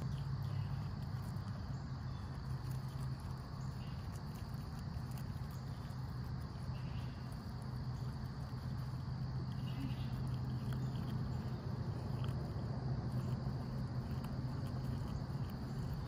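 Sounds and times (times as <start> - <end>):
insects chirring: 0.0 - 16.0
low steady hum: 0.0 - 16.0.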